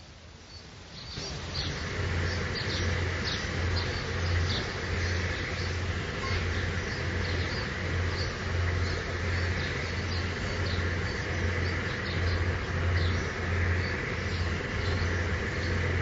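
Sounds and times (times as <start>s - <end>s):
birds chirping: 0.4s - 16.0s
motorboat engine drone: 1.2s - 16.0s.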